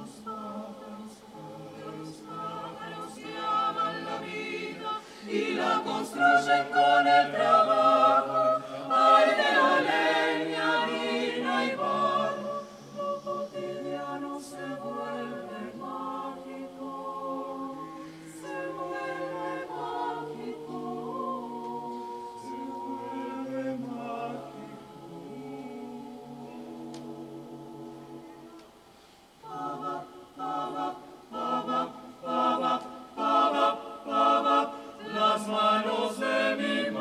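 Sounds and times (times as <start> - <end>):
vocal ensemble singing a cappella: 0.0 - 37.0.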